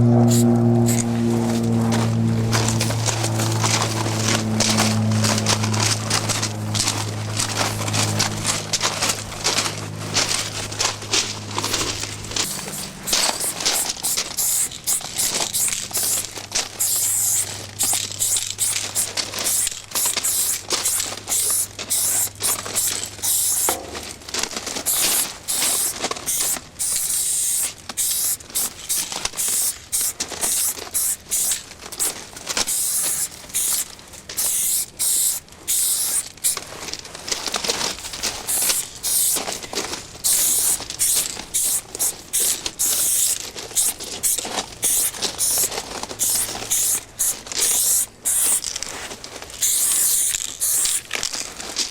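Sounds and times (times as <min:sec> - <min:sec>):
spray paint cans hissing: 0:00.1 - 0:01.6, 0:02.4 - 0:24.0, 0:24.8 - 0:36.7, 0:37.8 - 0:51.3.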